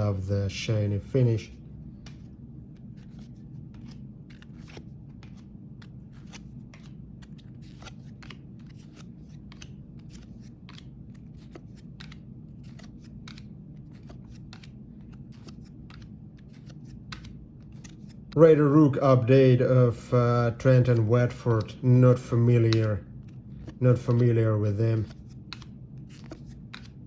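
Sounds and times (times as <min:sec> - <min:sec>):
trading cards scraping and clicking: 0:02.0 - 0:18.4, 0:20.0 - 0:27.0.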